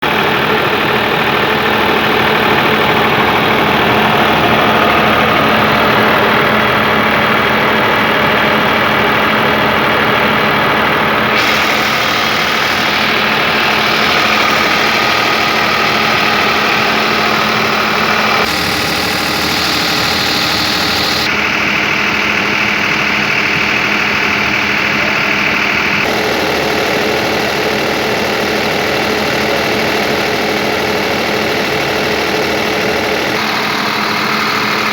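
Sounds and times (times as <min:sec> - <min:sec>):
diesel generator idling: 0:00.0 - 0:34.9.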